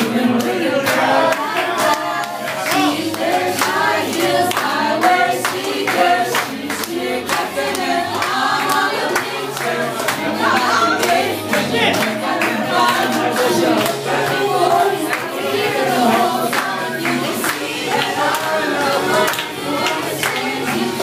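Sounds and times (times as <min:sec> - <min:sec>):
karaoke backing track: 0:00.0 - 0:21.0
voices singing karaoke: 0:00.0 - 0:21.0.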